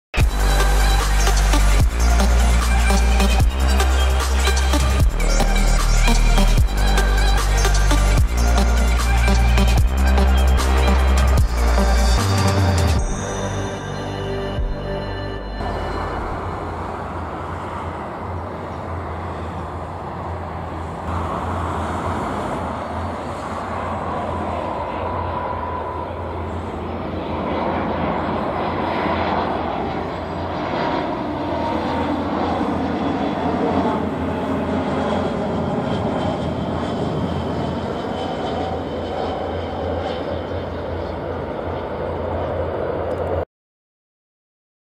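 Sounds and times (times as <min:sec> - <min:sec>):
jet airliner rumble with whine: 0:00.2 - 0:43.5.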